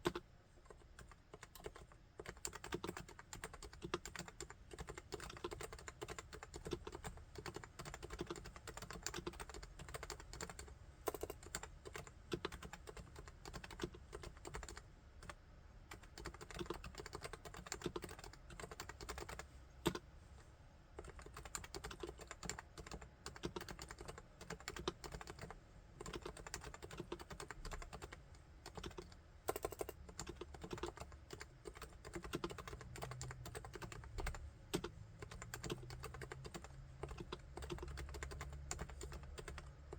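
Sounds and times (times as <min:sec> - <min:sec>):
fast typing on keyboard: 0:00.0 - 0:20.0, 0:21.0 - 0:39.9.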